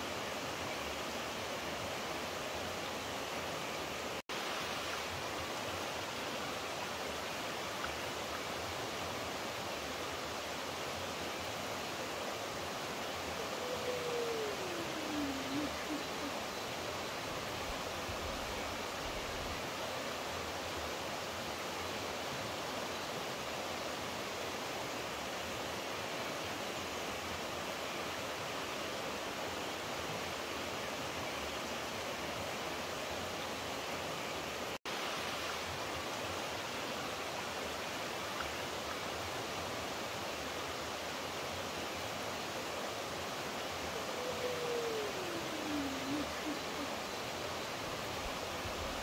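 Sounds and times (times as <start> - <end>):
water rushing: 0.0 - 49.0.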